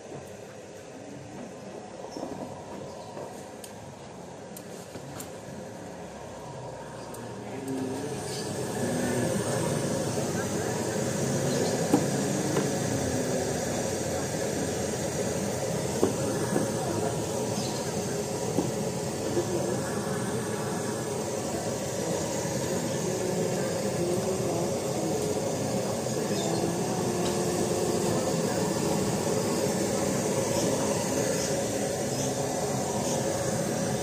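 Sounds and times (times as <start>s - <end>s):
many overlapping voices: 5.0s - 34.0s.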